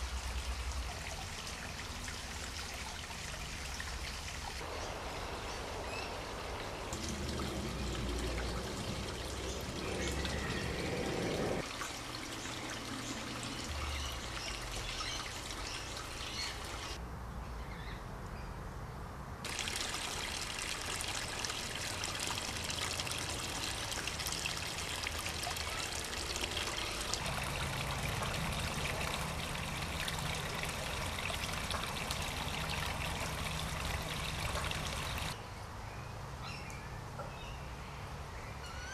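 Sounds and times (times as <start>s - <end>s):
water trickling and splashing: 0.0s - 17.0s, 19.4s - 35.4s.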